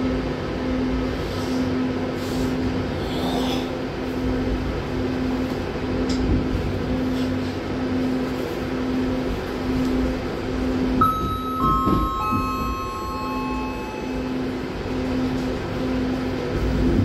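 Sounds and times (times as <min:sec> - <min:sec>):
constant hum: 0:00.0 - 0:17.0
train rumble: 0:00.0 - 0:17.0.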